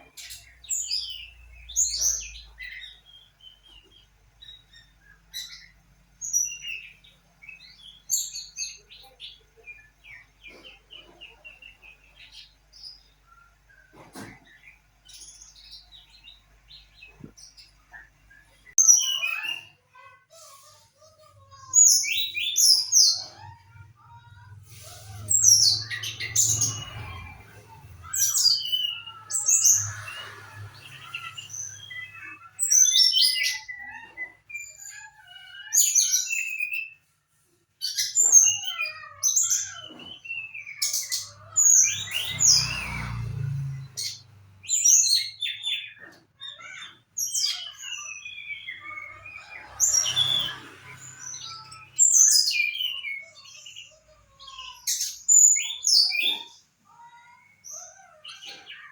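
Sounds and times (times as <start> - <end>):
bird chirping and singing: 0.0 - 20.2, 21.0 - 58.9.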